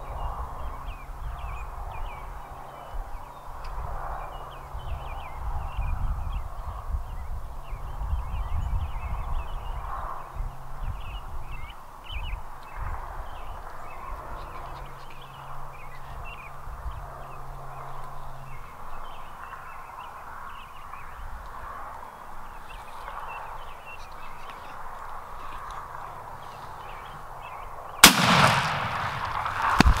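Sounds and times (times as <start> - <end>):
small birds chirping and singing: 0.0 - 28.0.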